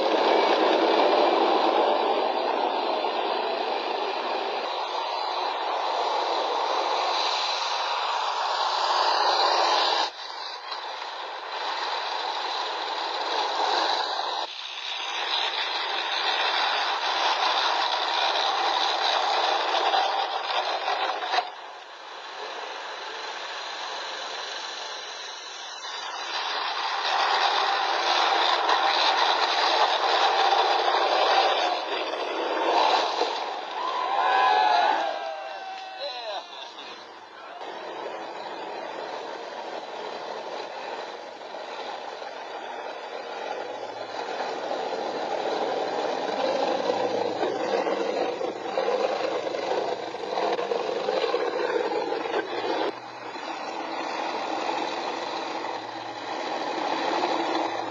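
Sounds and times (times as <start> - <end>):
tank engine and tracks running: 0.0 - 57.9.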